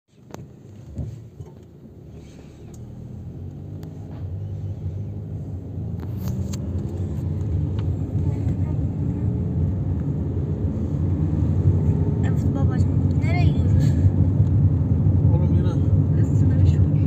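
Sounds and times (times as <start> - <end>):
car engine: 0.1 - 17.0
road noise: 0.1 - 17.0.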